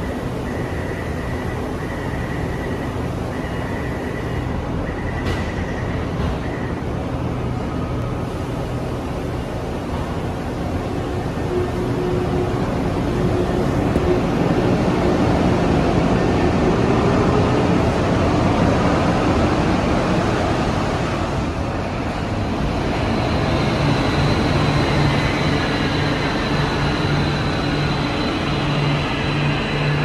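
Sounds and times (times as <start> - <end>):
train braking: 0.0 - 7.1, 10.6 - 30.0.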